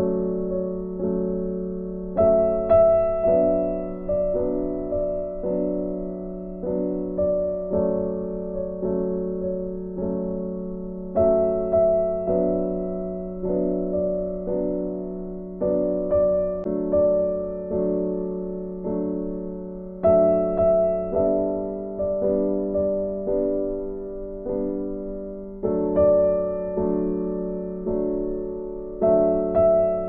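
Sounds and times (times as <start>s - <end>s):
slow gentle piano chords: 0.0s - 30.0s.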